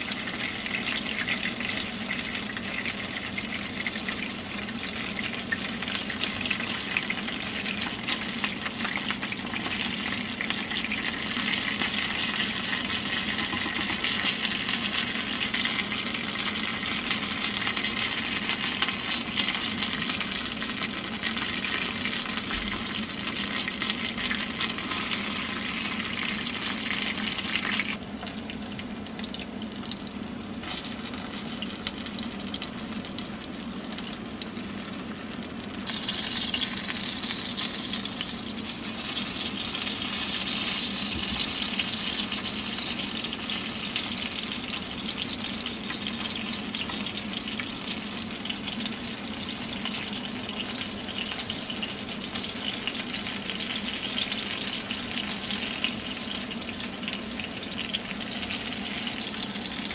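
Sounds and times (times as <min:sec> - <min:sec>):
chicken sizzling in oil: 0:00.0 - 0:59.9.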